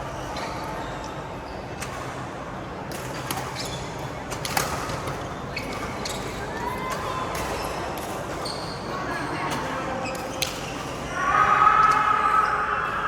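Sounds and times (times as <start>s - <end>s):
indoor court noise: 0.0s - 13.0s.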